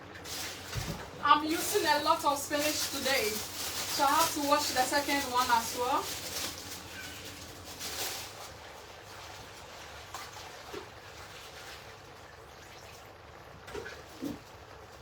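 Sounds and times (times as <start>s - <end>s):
leaves washed in splashing water: 0.0s - 15.0s.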